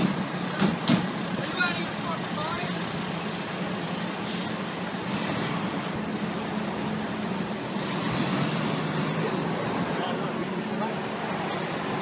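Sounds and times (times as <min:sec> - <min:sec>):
city street traffic: 0:00.0 - 0:12.0
diesel engine humming: 0:00.0 - 0:12.0.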